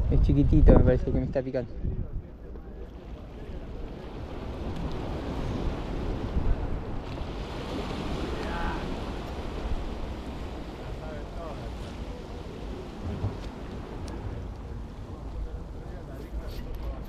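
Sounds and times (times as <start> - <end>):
wind buffeting microphone: 0.0 - 17.0
waves breaking on rocks: 2.7 - 17.0.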